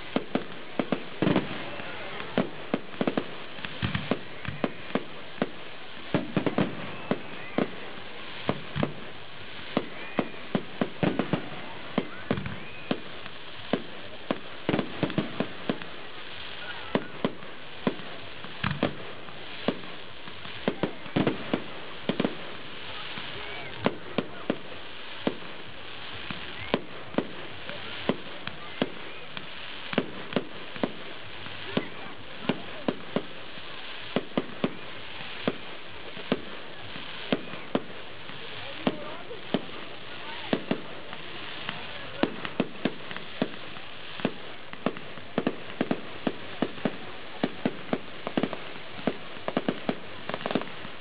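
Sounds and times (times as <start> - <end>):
fireworks bangs and pops: 0.0 - 51.0.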